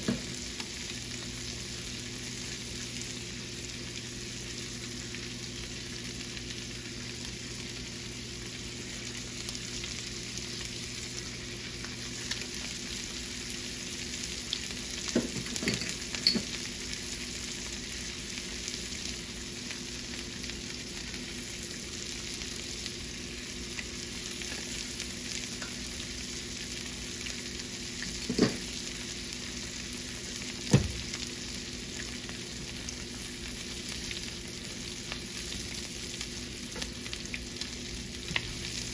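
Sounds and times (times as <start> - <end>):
food sizzling in a skillet: 0.0 - 38.9.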